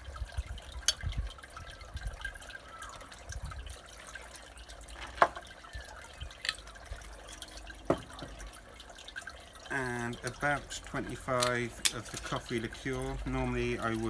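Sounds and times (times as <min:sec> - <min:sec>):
liquid pouring and trickling: 0:00.0 - 0:14.0.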